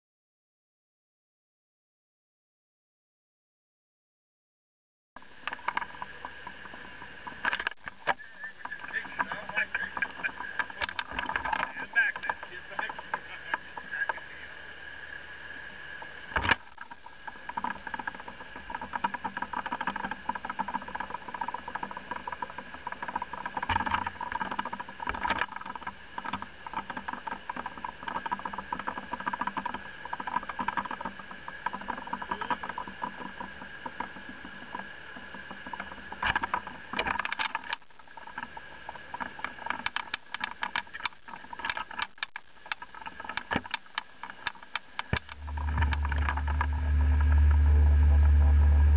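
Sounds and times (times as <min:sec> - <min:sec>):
boat motor running: 0:05.2 - 0:41.8, 0:42.7 - 0:48.9.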